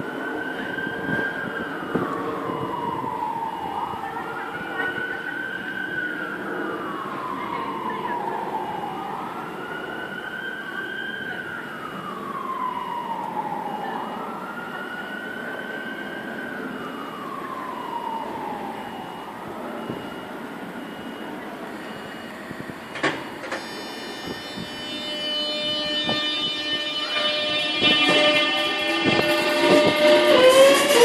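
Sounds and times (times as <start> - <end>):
emergency siren wailing: 0.0 - 31.0
train whine: 0.0 - 31.0.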